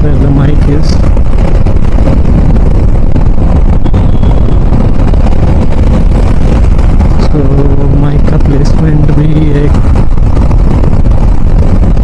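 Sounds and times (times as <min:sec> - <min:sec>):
motorcycle running: 0:00.0 - 0:12.0
road noise: 0:00.0 - 0:12.0
wind buffeting helmet mic: 0:00.0 - 0:12.0.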